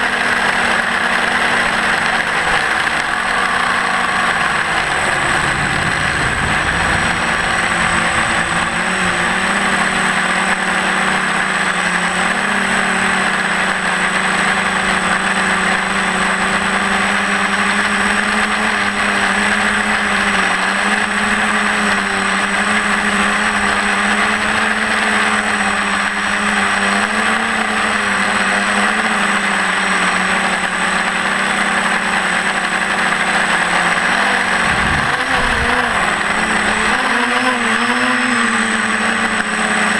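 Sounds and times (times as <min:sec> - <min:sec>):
drone motors and propellers humming: 0:00.0 - 0:39.9.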